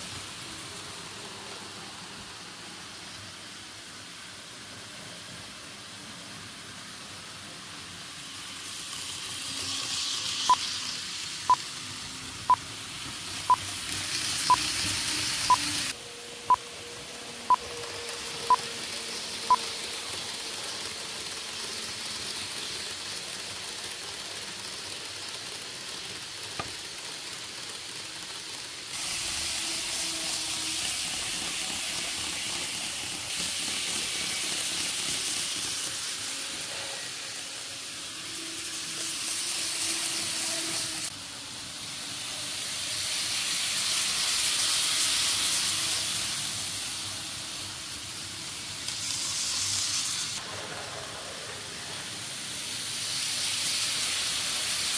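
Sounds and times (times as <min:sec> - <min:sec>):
model train wheels whirring: 0:00.0 - 0:54.9.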